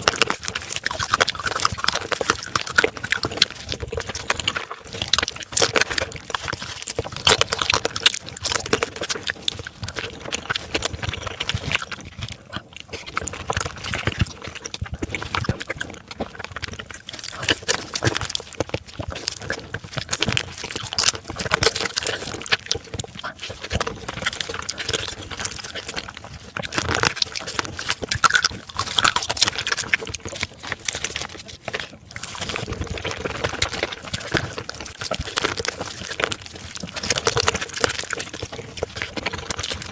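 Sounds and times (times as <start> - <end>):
wet slurping and chewing: 0.0 - 39.9.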